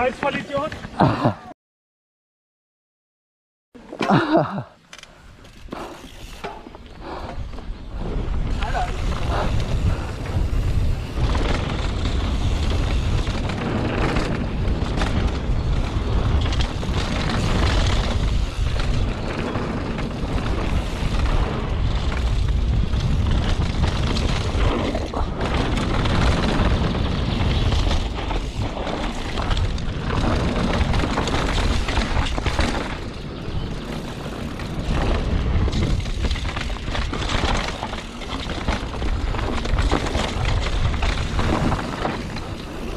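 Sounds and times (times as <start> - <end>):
wind buffeting microphone: 7.0 - 42.9.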